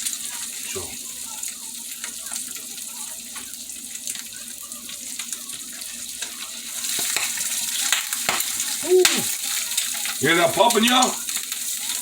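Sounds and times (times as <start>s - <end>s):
eggs sizzling in a pan: 0.0s - 12.0s.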